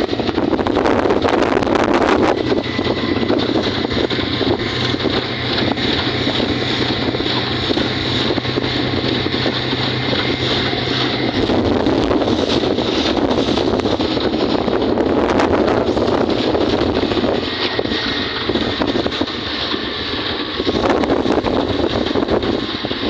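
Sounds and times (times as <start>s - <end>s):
outboard motor running: 0.0s - 23.0s
water rushing past hull: 0.0s - 23.0s
wind buffeting microphone: 0.0s - 23.0s.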